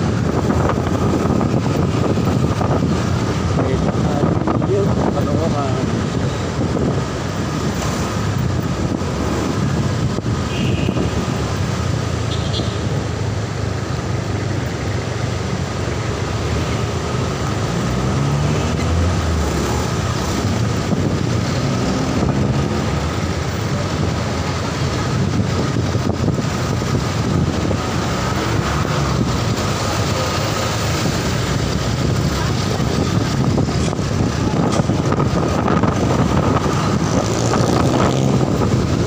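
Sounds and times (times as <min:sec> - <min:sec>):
road and traffic noise: 0:00.0 - 0:39.0.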